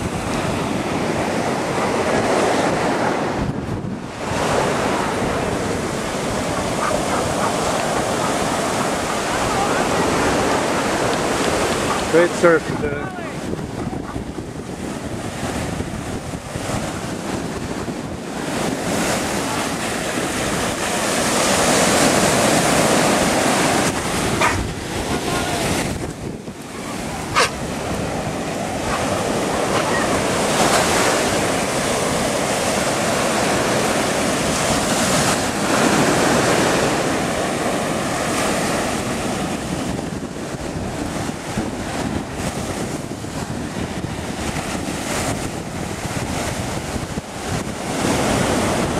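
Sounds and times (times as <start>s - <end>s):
ocean surf breaking: 0.0s - 48.9s
wind buffeting microphone: 0.0s - 48.9s.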